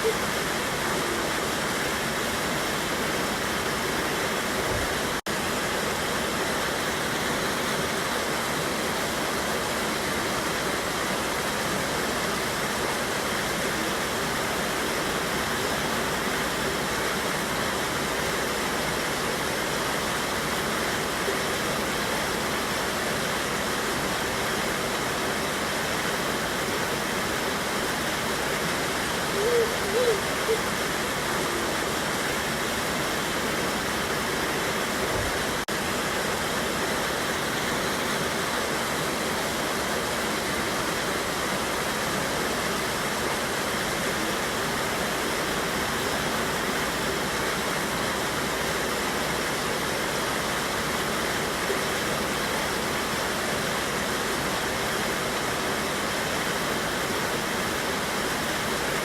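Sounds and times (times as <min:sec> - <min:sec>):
water rushing over waterfall: 0:00.0 - 0:59.0.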